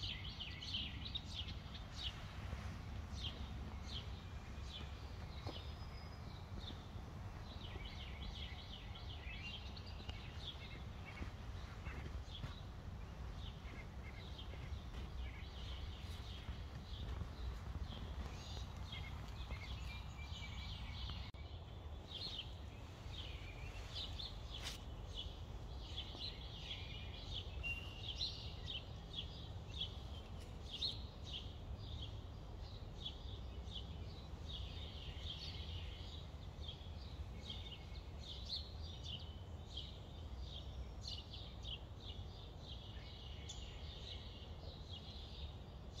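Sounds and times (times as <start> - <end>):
low background rumble: 0.0 - 45.5
small songbirds chirping: 0.0 - 46.0.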